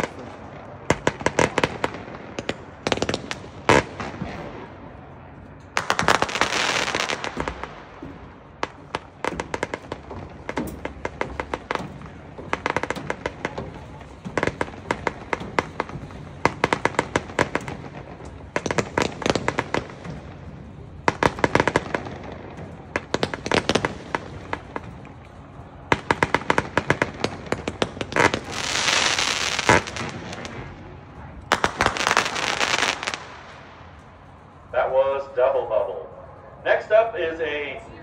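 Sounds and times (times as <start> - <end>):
firework volleys: 0.0 - 34.9.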